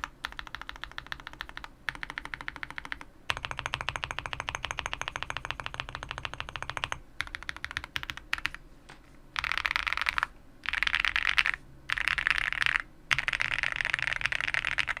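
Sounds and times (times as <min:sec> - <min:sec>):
mechanical keyboard typing: 0:00.0 - 0:08.6, 0:09.4 - 0:15.0.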